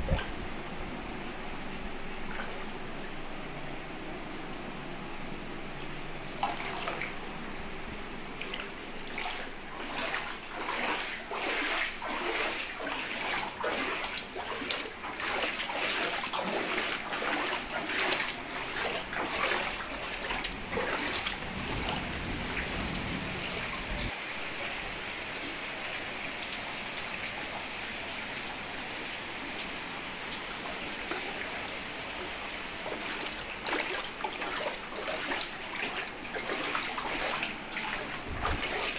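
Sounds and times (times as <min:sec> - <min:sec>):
water rushing: 0:06.2 - 0:38.9
floodwater splashing: 0:06.3 - 0:38.9.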